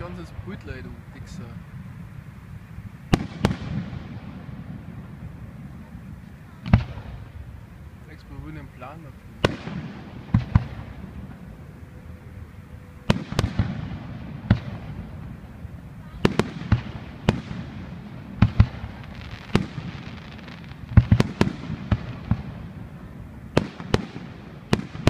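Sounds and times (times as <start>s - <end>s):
fireworks bangs: 3.0s - 11.8s, 13.0s - 25.0s.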